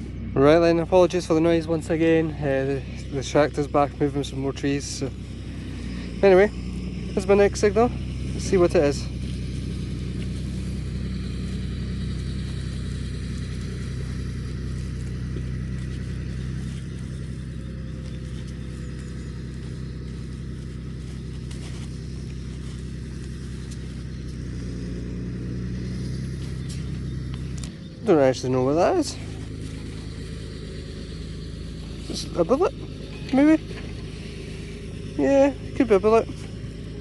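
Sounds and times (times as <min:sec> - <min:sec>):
tractor engine droning: 0:00.0 - 0:37.0.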